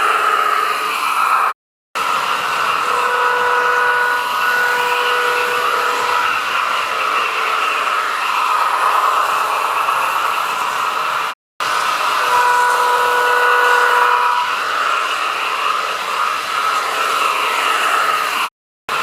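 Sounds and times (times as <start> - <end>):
model train motor running: 0.0 - 19.0.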